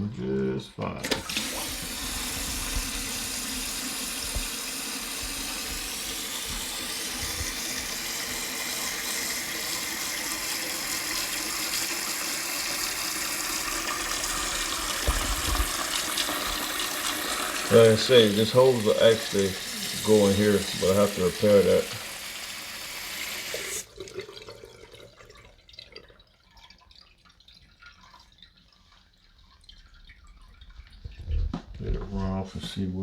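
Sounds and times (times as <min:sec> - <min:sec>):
toilet tank refilling with hissing water: 0:00.4 - 0:33.0.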